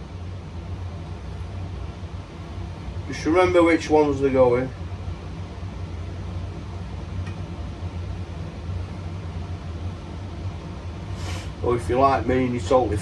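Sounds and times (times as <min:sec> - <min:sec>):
mechanical hum with hiss: 0:00.0 - 0:13.0.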